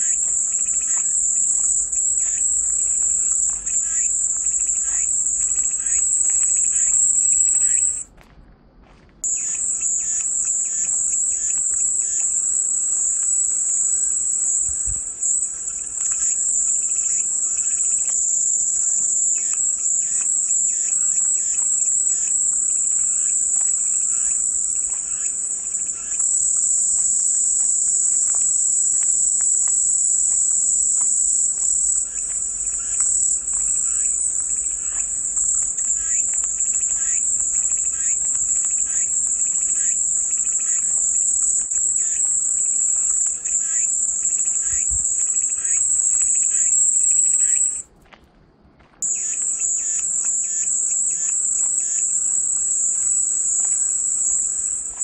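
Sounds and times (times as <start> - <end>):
cicadas droning: 0.0 - 48.2, 48.8 - 55.0.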